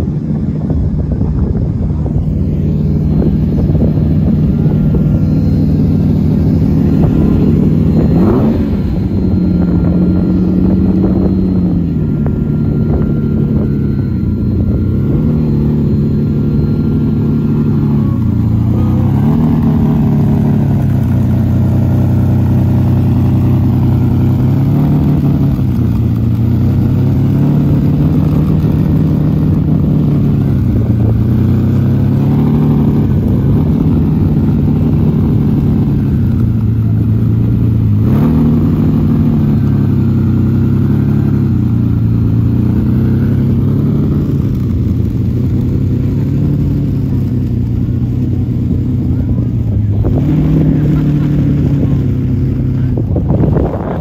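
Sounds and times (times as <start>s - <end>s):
car engine at low revs: 0.0s - 54.0s
engine throttle blips: 0.0s - 54.0s.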